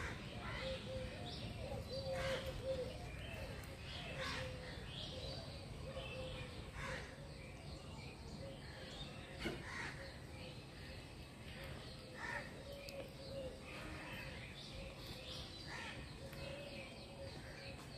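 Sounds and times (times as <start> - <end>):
birds calling: 0.0 - 17.9.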